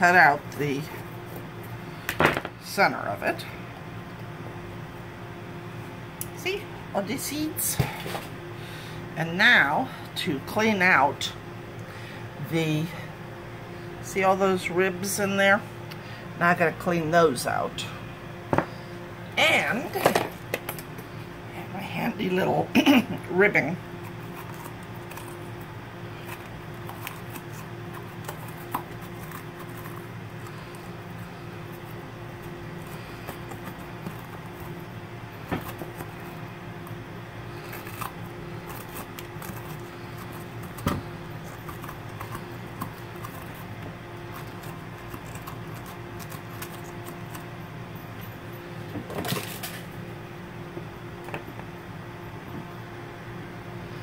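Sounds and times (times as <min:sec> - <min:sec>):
kitchen appliance humming: 0:00.0 - 0:54.0.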